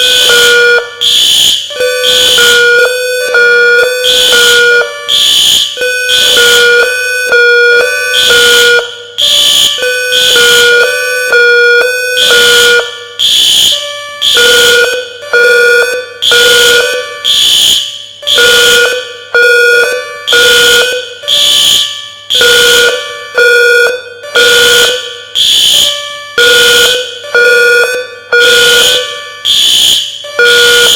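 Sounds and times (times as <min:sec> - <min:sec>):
fire alarm ringing pulse: 0:00.0 - 0:30.9
second alarm steady tones: 0:00.0 - 0:30.9.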